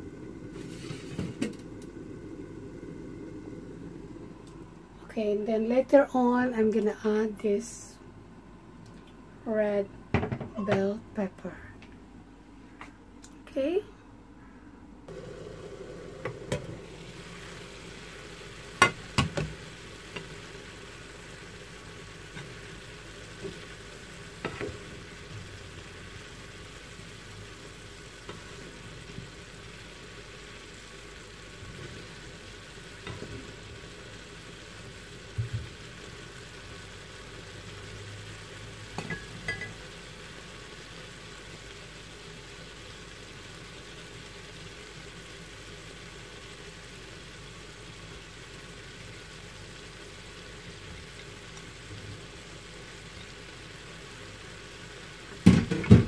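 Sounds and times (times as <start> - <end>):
food sizzling in a frying pan: 0.0 - 7.7, 15.1 - 56.0.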